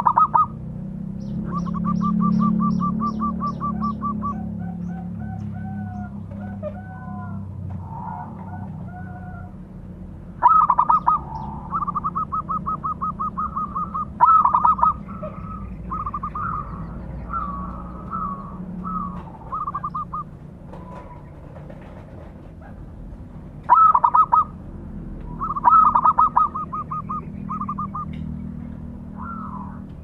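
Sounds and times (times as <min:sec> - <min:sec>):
dove cooing: 0:00.0 - 0:00.6, 0:01.4 - 0:09.6, 0:10.4 - 0:22.0, 0:23.6 - 0:24.6, 0:25.2 - 0:28.2, 0:29.0 - 0:30.0.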